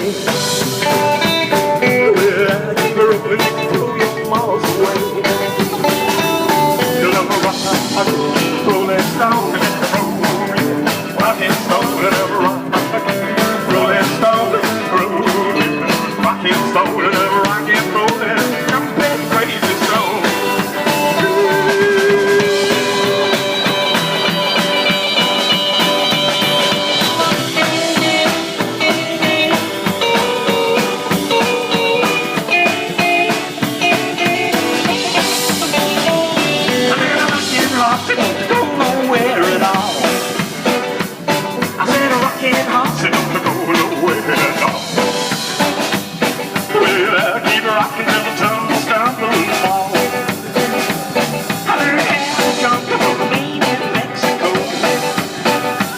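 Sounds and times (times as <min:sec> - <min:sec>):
rock band playing: 0:00.0 - 0:55.9
steady drum beat: 0:00.0 - 0:55.9.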